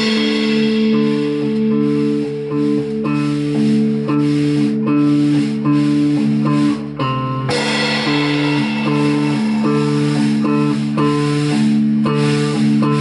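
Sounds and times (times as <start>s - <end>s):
rock band playing guitar riff: 0.0s - 13.0s.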